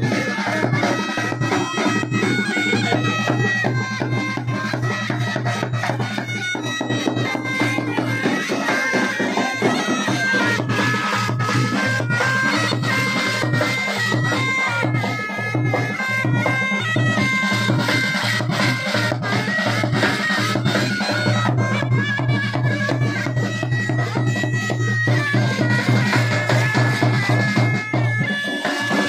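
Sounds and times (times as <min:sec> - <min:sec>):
bagpipe melody over drone: 0:00.0 - 0:29.0
drum beating: 0:00.0 - 0:29.0.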